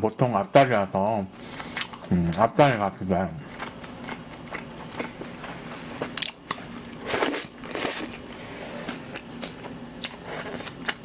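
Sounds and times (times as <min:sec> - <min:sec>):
person chewing vegetables: 0:01.0 - 0:11.0.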